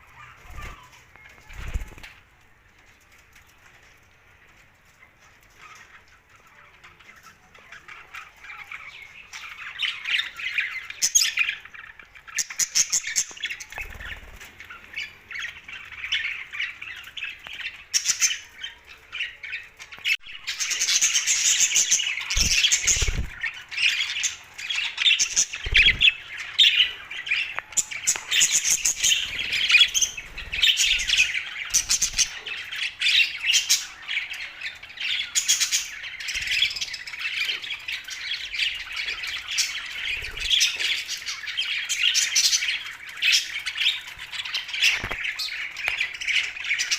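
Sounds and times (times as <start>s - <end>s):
budgerigars chattering and squawking: 5.6s - 46.9s.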